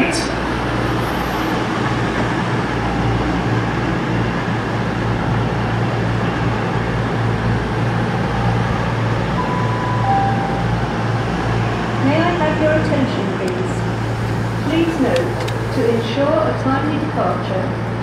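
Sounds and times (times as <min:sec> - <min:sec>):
diesel train running past: 0:00.0 - 0:18.0.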